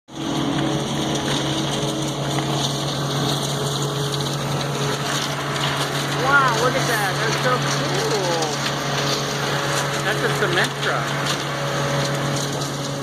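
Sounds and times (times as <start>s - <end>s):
engine running steadily: 0.1s - 13.0s.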